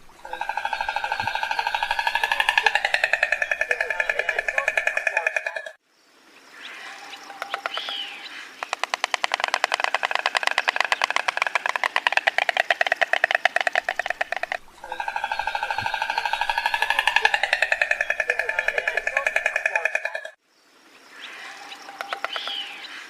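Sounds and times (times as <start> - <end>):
stork clattering its bill: 0.0 - 5.8, 7.4 - 20.4, 21.9 - 22.8.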